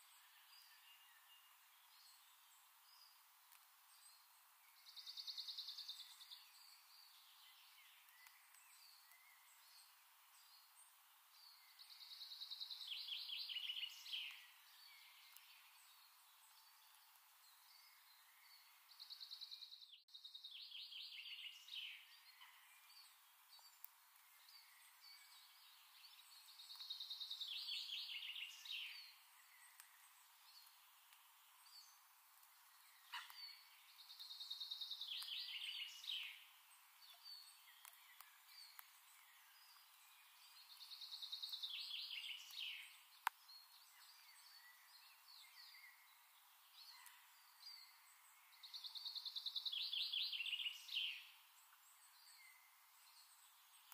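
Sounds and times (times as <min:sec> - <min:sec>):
songbird singing trill: 0:00.0 - 0:53.9.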